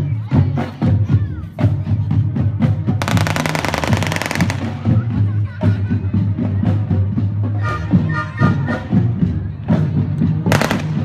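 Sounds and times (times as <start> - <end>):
marching band drums: 0.0 - 11.0.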